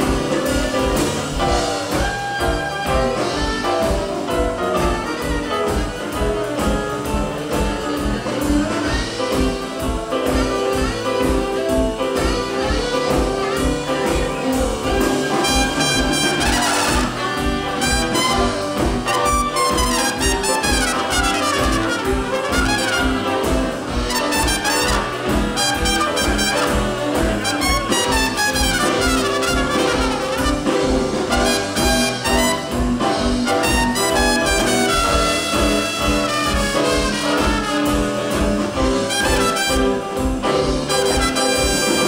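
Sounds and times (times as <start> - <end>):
double bass steady beat: 0.0 - 42.0
jazz band playing: 0.0 - 42.0
trumpet: 0.0 - 42.0.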